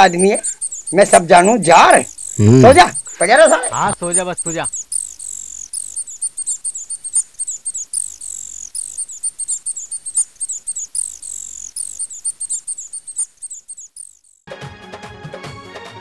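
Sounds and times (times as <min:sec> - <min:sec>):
high-pitched chirping of small creatures: 0:00.0 - 0:14.4.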